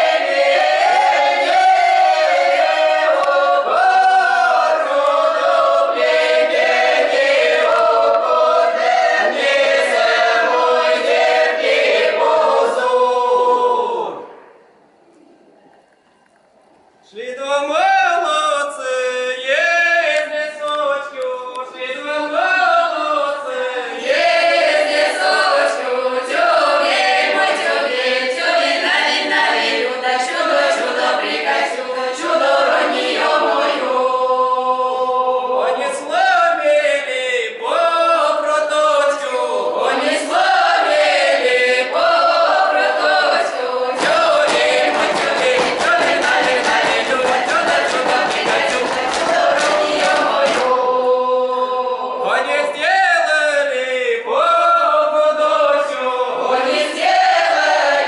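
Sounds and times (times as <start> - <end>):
mixed choir singing a cappella: 0.0 - 14.4, 18.8 - 58.0.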